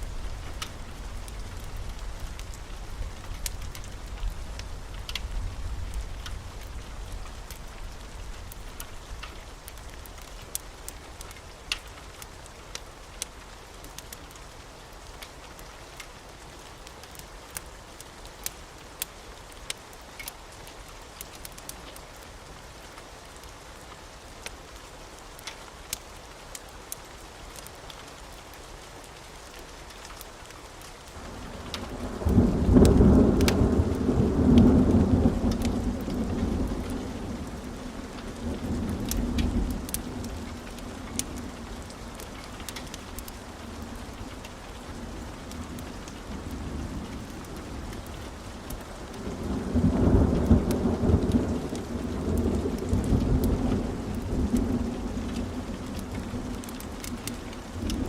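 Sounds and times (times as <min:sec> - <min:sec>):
wood fire crackling and popping: 0:00.0 - 0:14.4, 0:16.8 - 0:22.2, 0:25.2 - 0:58.0.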